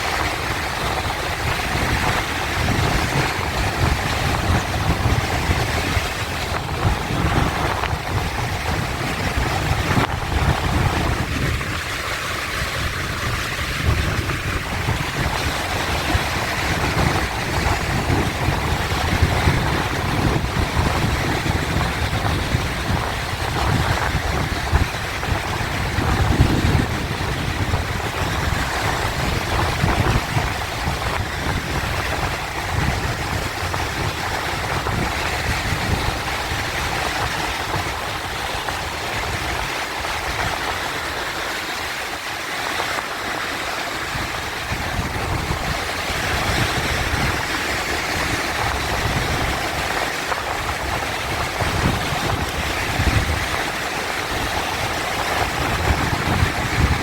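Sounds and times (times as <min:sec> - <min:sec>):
low rumble of surf: 0:00.0 - 0:57.0
sea waves breaking: 0:00.0 - 0:57.0.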